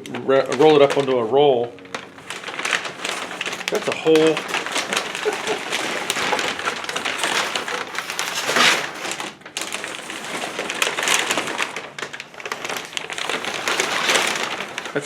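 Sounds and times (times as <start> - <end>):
paper crumpling and crinkling: 0.0 - 15.0.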